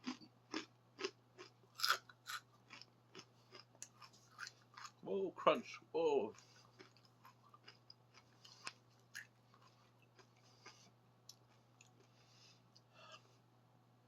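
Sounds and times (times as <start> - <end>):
potato chips being chewed: 0.0 - 5.0, 6.3 - 12.9
low steady hum: 0.0 - 14.0.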